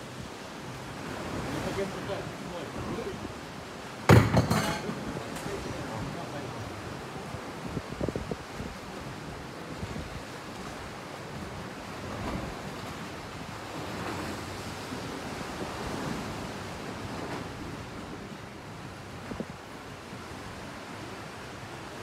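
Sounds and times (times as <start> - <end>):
seawater washing around boat: 0.0 - 22.0
wind rumbling on microphone: 0.0 - 22.0.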